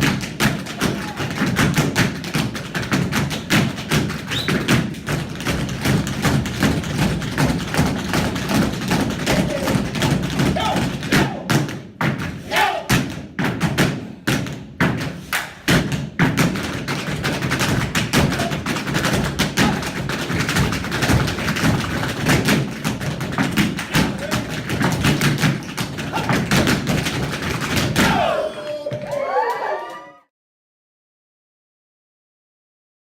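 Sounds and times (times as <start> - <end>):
tap dancing on a hard floor: 0.0 - 28.2.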